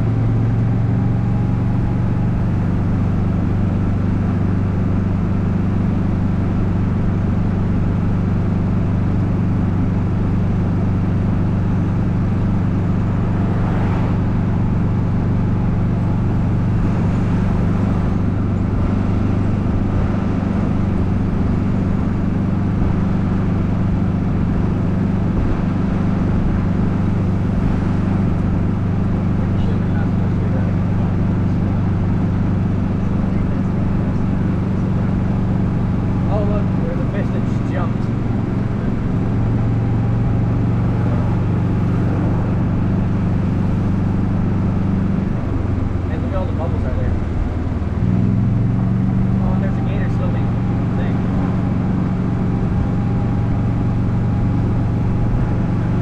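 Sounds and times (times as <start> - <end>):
golf cart motor humming: 0.0 - 56.0
road and tyre noise: 0.0 - 56.0.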